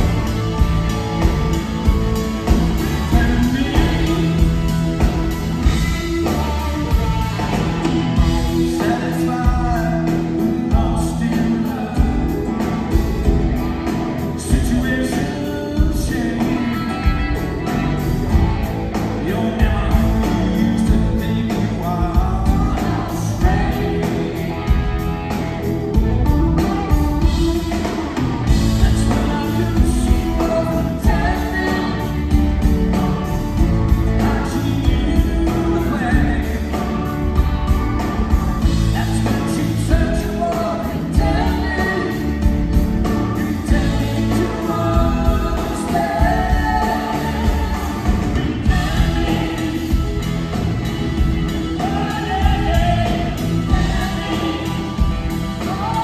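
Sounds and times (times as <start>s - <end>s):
lead vocal singing: 0.0s - 56.0s
live rock band playing: 0.0s - 56.0s.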